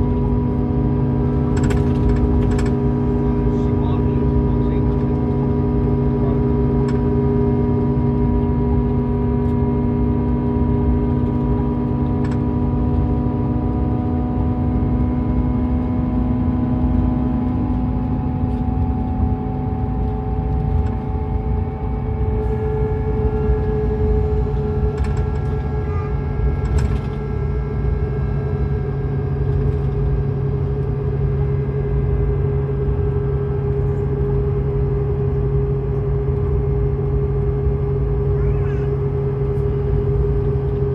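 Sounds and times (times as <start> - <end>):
diesel coach engine rumbling: 0.0 - 40.9.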